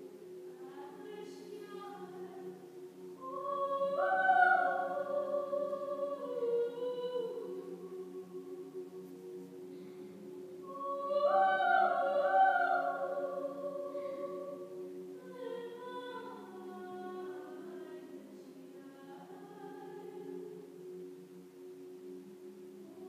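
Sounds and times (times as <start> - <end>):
choir holding a chord: 0.0 - 23.0
high soprano singing: 0.5 - 9.2, 10.6 - 20.7.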